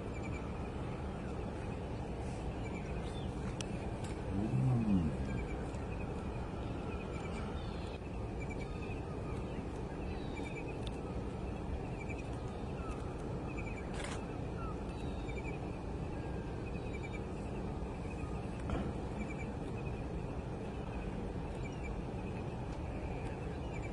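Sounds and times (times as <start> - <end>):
birds chirping: 0.0 - 23.9
low background rumble: 0.0 - 23.9.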